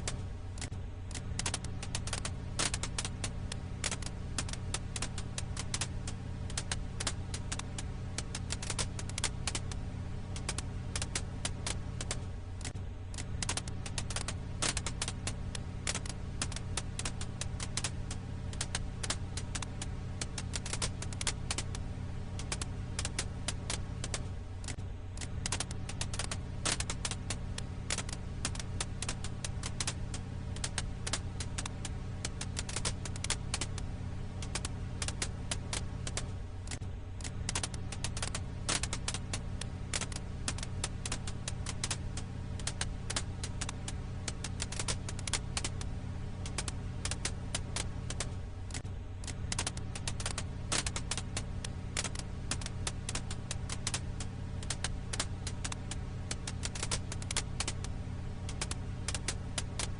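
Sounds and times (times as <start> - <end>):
campfire crackling: 0.0 - 59.9
low rumble: 0.0 - 59.9.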